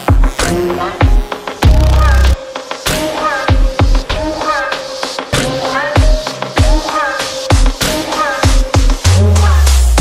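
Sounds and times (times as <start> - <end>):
electronic music with heavy beat: 0.0 - 10.0.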